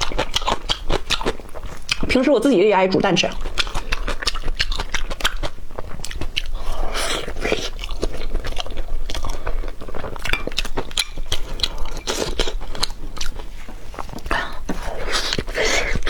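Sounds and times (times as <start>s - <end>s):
person chewing and smacking: 0.0s - 2.2s, 3.1s - 16.0s.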